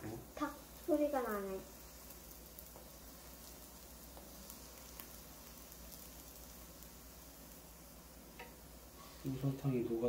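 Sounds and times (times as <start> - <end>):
faint crackles: 0.0 - 10.0
pancakes sizzling in oil: 0.0 - 10.0.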